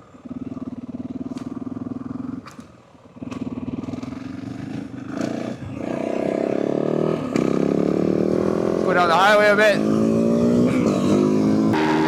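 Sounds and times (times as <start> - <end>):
dirt bike engine running: 0.2 - 12.0.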